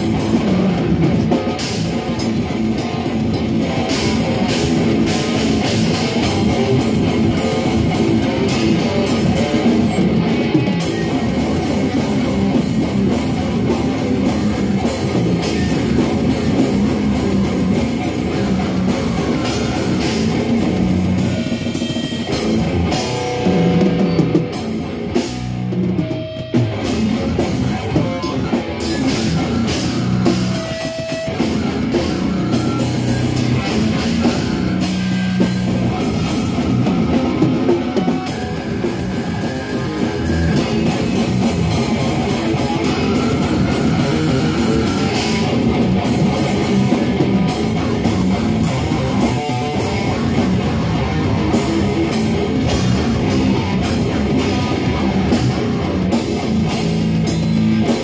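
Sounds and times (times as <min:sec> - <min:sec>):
drum kit: 0:00.0 - 0:58.0
electric guitar: 0:00.0 - 0:58.0.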